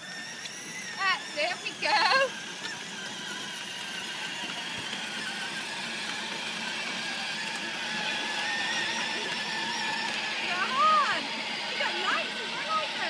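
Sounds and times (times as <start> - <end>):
toy car electric motor whining: 0.0 - 13.0.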